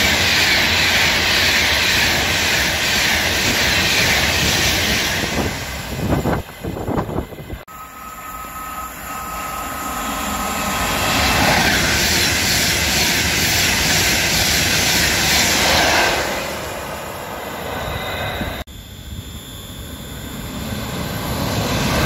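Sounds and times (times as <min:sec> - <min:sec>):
train passing at speed: 0:00.0 - 0:18.7, 0:20.4 - 0:22.0.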